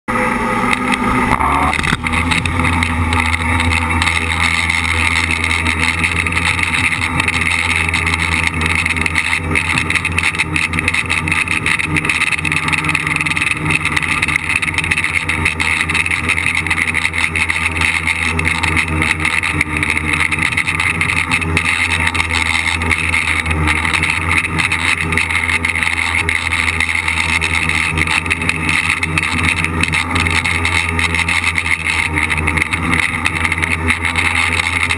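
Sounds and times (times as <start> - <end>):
drone motors buzzing whine: 0.1 - 34.9.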